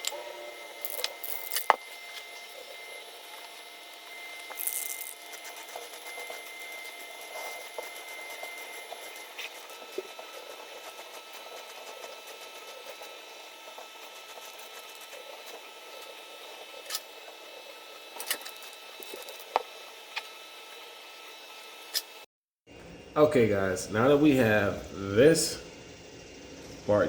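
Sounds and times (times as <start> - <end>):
small machine humming and whining: 0.0 - 27.0.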